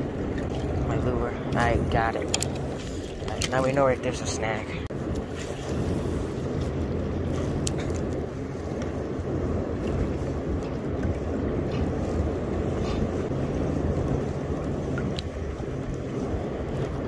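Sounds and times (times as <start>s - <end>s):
river water lapping: 0.0s - 17.0s
wind on microphone: 0.0s - 17.0s.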